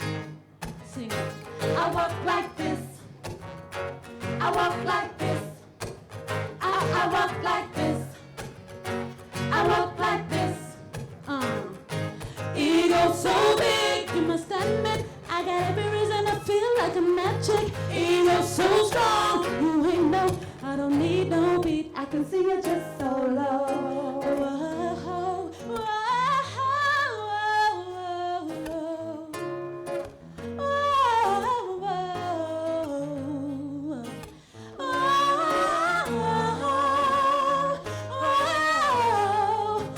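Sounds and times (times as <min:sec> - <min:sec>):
vocal group singing: 0:01.0 - 0:03.4, 0:04.0 - 0:26.6, 0:30.6 - 0:33.4, 0:34.0 - 0:39.9.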